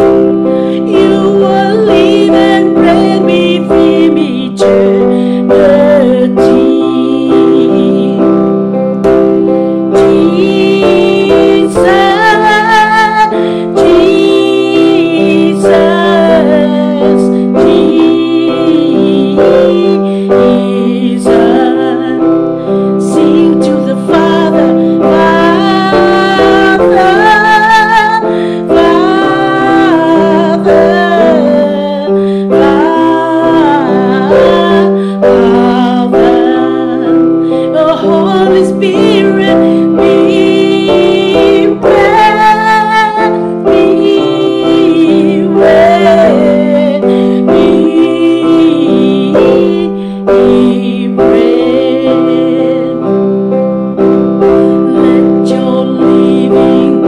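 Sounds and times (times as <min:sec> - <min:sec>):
woman singing with vibrato: 0:00.0 - 0:53.2, 0:54.4 - 0:57.0
electronic keyboard chords: 0:00.0 - 0:57.0.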